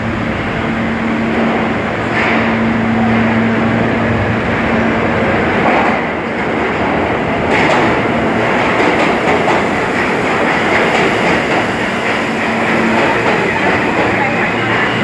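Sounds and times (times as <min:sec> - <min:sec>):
subway train wheels rumbling: 0:00.0 - 0:15.0.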